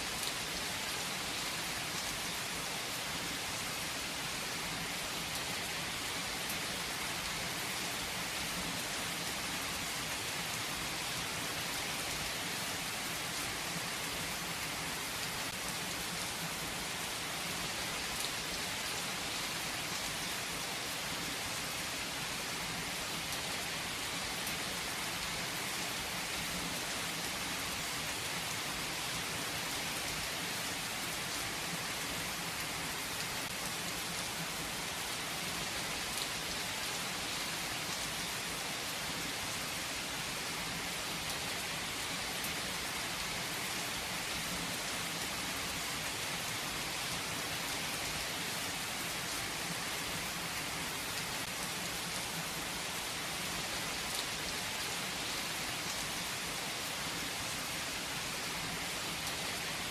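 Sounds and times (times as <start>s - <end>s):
rain hissing on surfaces: 0.0s - 59.9s.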